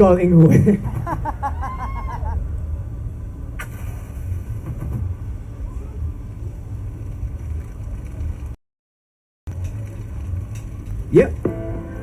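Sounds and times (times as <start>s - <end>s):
steady low rumble: 0.0s - 8.6s, 9.5s - 12.0s.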